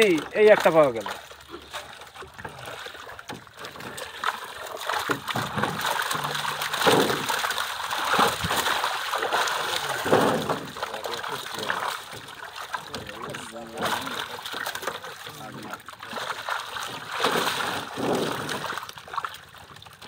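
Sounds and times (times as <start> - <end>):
fish thrashing in water: 0.0 - 20.0
water pouring from basket: 0.0 - 20.0
water splashing and sloshing: 0.0 - 20.0.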